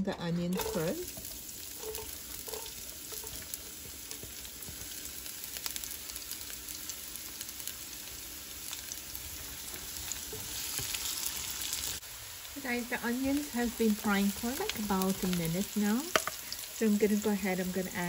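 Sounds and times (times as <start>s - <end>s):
onions sizzling in oil: 0.2s - 18.0s.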